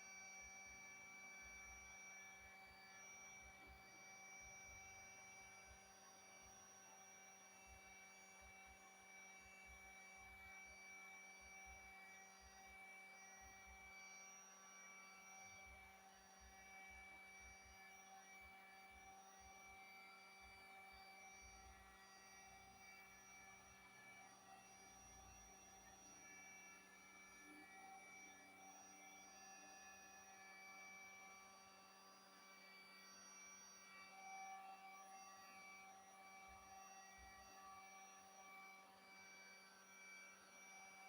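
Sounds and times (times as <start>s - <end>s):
faint steady hum of tones: 0.0s - 41.0s.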